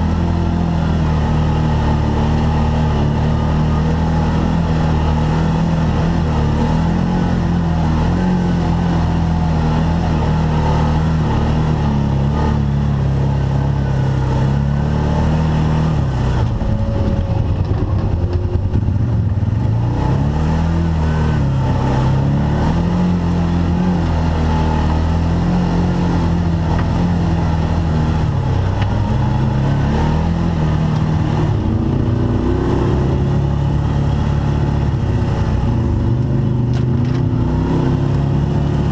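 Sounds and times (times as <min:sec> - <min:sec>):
utility vehicle engine revving: 0:00.0 - 0:38.9.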